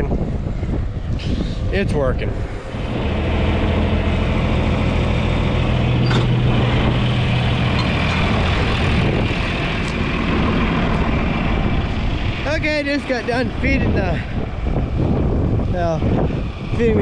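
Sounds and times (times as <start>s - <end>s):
tractor engine running: 1.7s - 17.0s.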